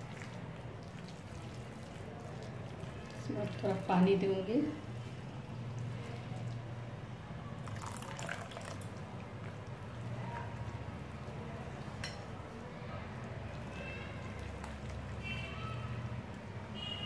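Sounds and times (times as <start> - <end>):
spoon stirring wet batter: 0.0 - 17.0.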